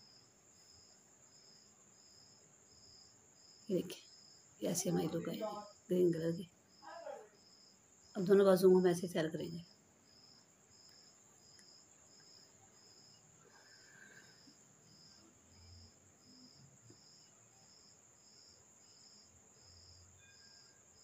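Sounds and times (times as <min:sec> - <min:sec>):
high insect chirp: 0:00.0 - 0:21.0.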